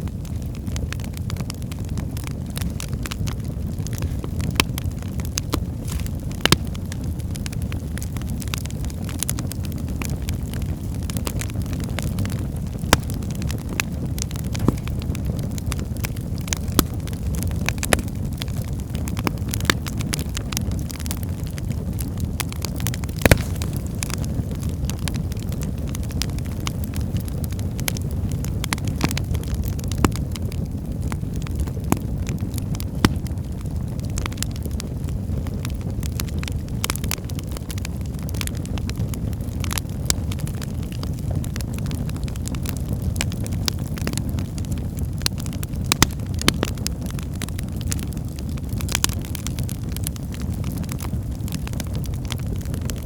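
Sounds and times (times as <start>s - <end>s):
fire flames rumbling: 0.0s - 53.0s
logs crackling and popping: 0.0s - 53.0s.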